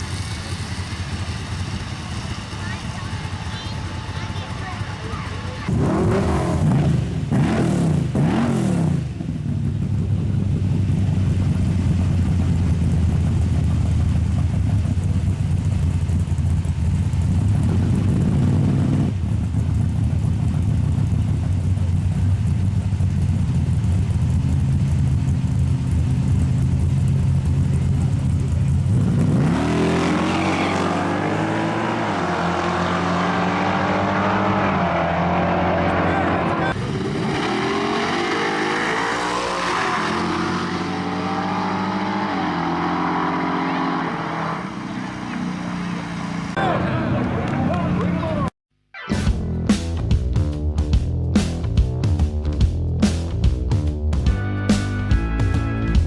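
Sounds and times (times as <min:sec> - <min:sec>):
drag-racing engine revving: 0:00.0 - 0:48.5.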